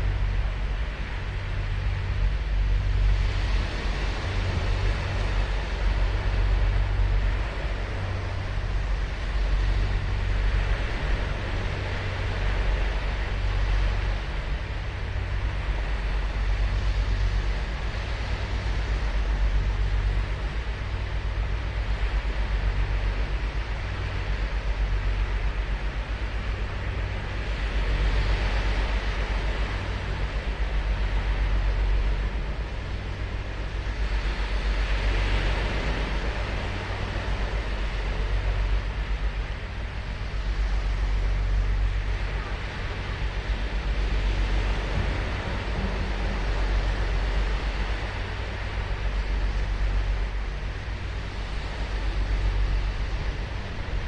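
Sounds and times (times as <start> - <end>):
low surf rumble: 0.0 - 54.0
surf washing up beach: 0.0 - 54.0.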